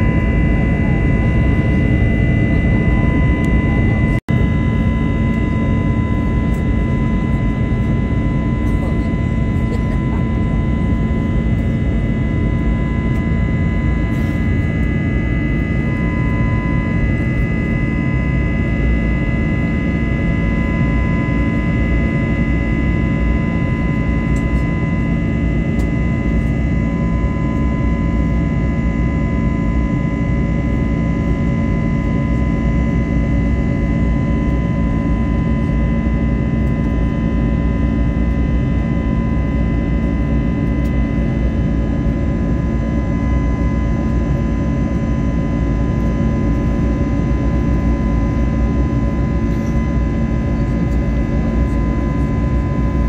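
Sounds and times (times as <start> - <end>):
airplane cabin engine rumble: 0.0 - 53.0.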